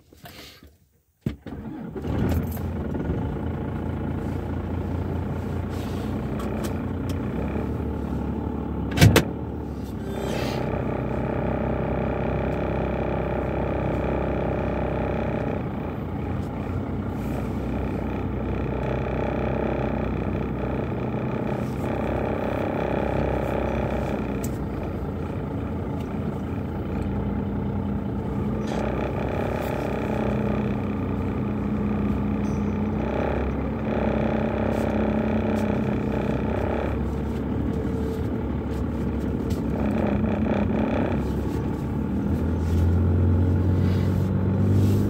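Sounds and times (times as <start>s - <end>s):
diesel engine running from inside cab: 0.0s - 45.0s.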